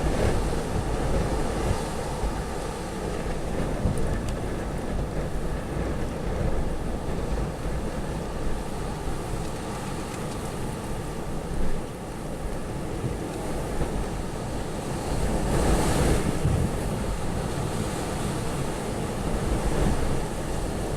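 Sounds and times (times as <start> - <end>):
gusty wind blowing hard: 0.0 - 20.9
wind buffeting microphone: 0.0 - 20.9.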